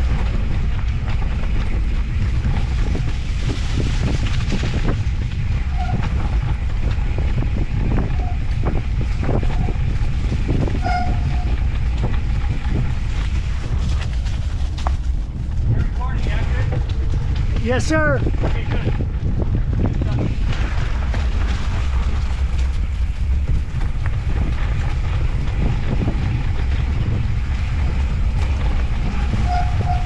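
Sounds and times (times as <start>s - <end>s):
bike rattling over bumps: 0.0s - 30.0s
wind on microphone: 0.0s - 30.0s.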